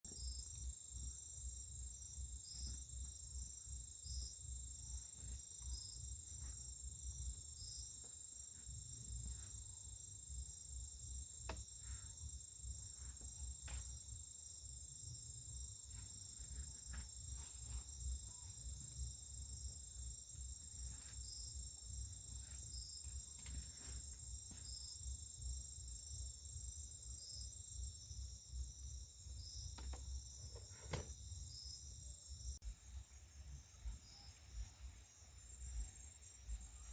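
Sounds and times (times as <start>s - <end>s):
insects trilling: 0.1s - 36.9s.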